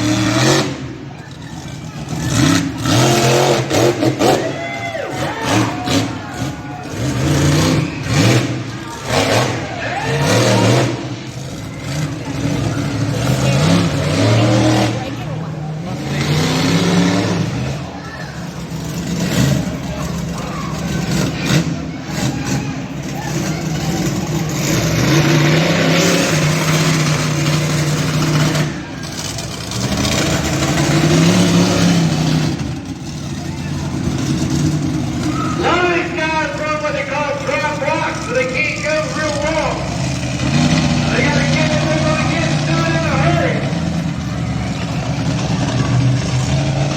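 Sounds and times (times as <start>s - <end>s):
truck engine revving hard: 0.0s - 46.9s.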